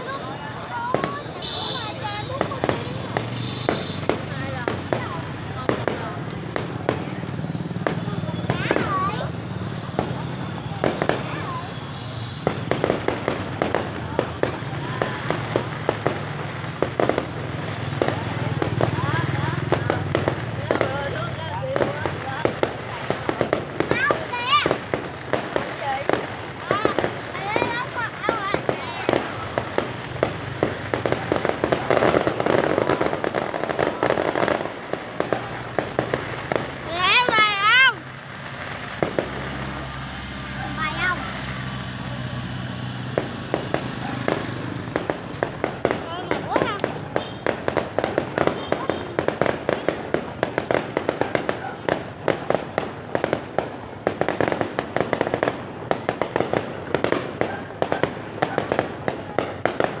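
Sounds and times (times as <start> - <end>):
fireworks popping and crackling: 0.0 - 60.0.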